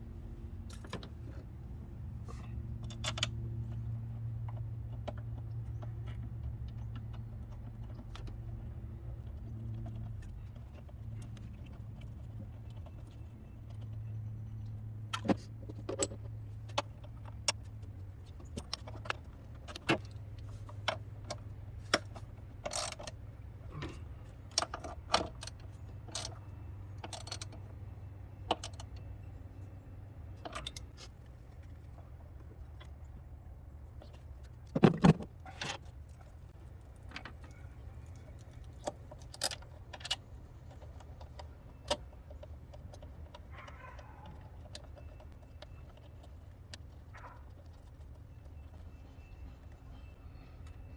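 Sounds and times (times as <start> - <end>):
steady low hum: 0.0 - 44.2.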